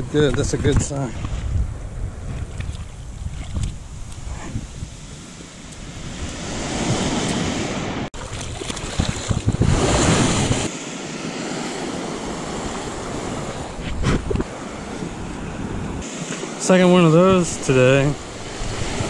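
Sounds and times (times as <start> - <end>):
wind buffeting microphone: 0.0 - 10.7, 11.9 - 16.1, 17.2 - 19.0
surf washing up sand: 3.6 - 19.0.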